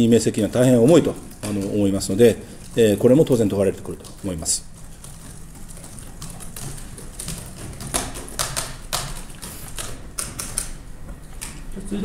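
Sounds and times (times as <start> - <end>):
low room hum: 0.0 - 12.0
laptop keyboard typing: 0.4 - 11.6.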